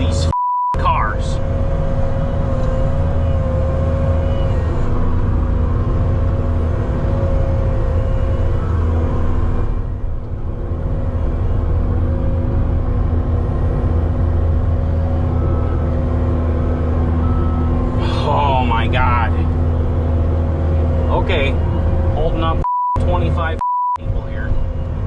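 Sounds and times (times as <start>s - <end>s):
truck engine rumble: 0.0s - 25.0s.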